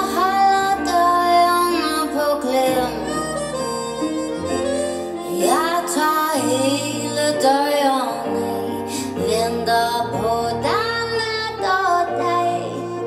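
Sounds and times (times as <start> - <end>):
woman singing: 0.0 - 4.0, 5.2 - 13.0
instrumental backing: 0.0 - 13.0.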